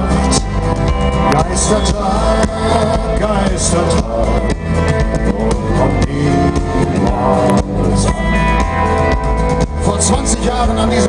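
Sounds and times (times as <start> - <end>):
country rock band playing: 0.0 - 11.0.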